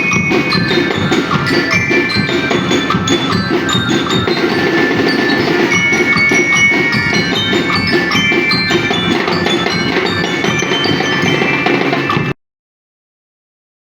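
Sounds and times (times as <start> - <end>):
bell-like percussion strikes: 0.0 - 12.4.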